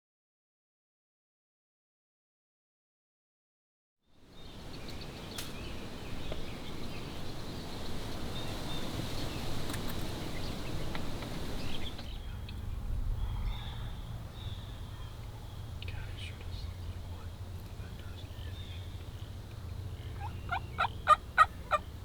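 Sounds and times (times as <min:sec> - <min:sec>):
birds chirping: 0:04.2 - 0:22.0
wind rumbling on microphone: 0:04.4 - 0:22.0.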